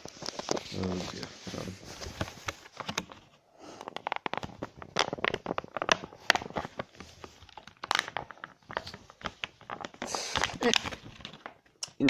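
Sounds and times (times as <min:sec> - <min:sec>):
packaging crinkling and crackling: 0:00.0 - 0:12.0.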